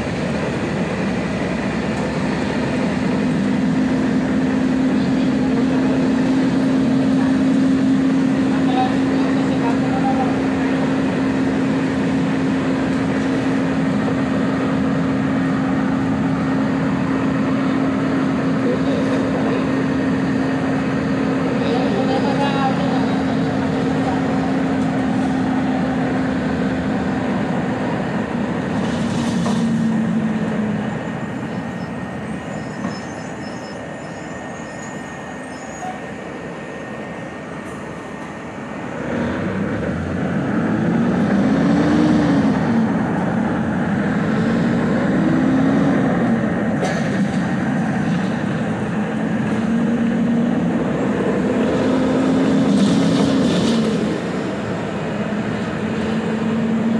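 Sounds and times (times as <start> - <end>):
vehicle running rumble: 0.0 - 56.9.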